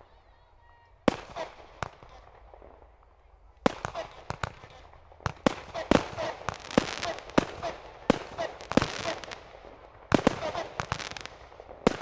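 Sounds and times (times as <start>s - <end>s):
fireworks bangs and cracks: 1.0s - 12.0s.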